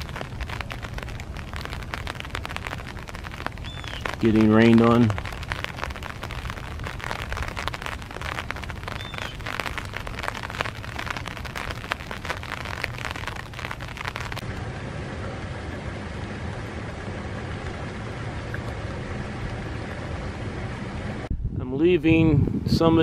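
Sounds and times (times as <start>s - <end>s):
raindrops ticking: 0.0s - 20.4s
light rain falling: 0.0s - 21.3s.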